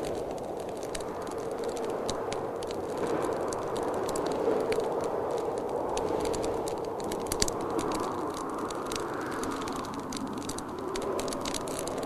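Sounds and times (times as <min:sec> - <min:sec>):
blizzard wind: 0:00.0 - 0:12.0
wood fire crackling and popping: 0:00.0 - 0:12.0.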